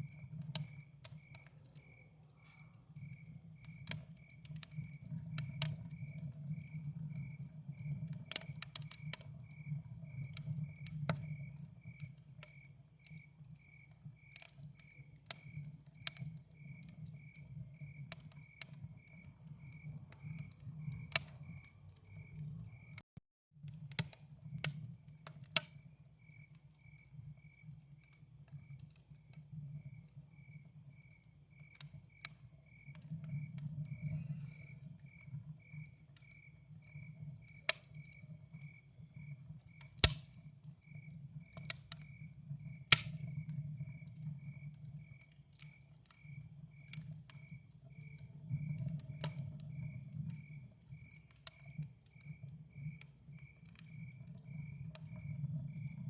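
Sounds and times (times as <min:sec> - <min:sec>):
campfire crackling and popping: 0:00.0 - 0:23.0, 0:23.6 - 0:56.0
cricket chirping: 0:00.0 - 0:23.0, 0:25.4 - 0:56.0.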